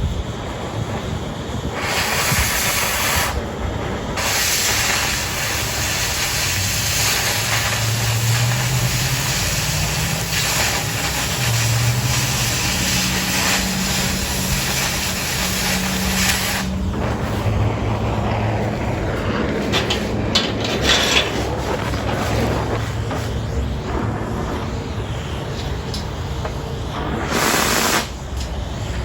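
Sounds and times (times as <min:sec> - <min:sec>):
cutting torch hissing: 0:00.0 - 0:29.0.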